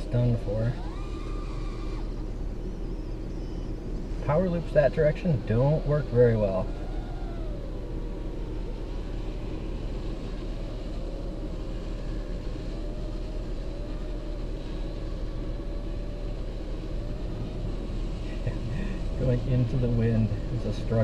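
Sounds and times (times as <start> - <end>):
car idling from inside cabin: 0.0 - 21.0
faint wavering tone: 0.0 - 21.0.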